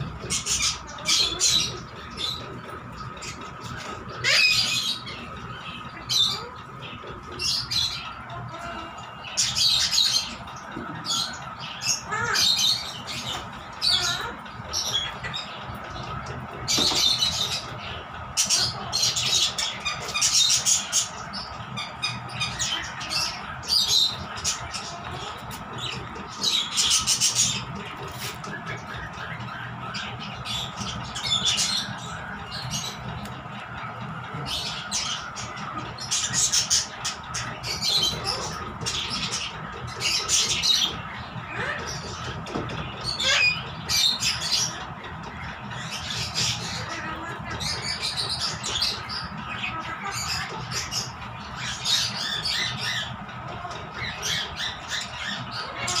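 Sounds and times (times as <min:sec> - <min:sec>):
harsh animal calls: 0:00.0 - 0:56.0
steady background hum: 0:00.0 - 0:56.0.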